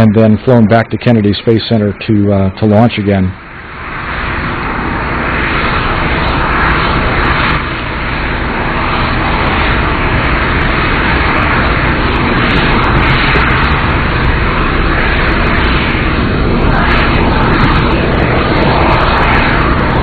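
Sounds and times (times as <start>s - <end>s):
loud jet engine noise: 0.0s - 20.0s.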